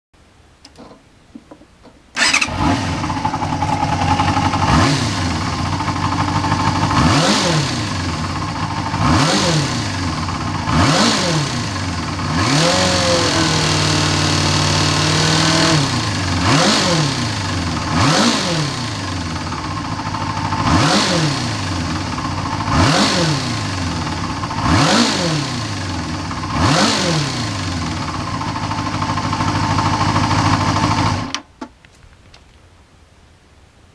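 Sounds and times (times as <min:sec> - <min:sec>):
engine rattling noise: 0:01.8 - 0:31.4
car engine starting and revving: 0:02.2 - 0:31.3.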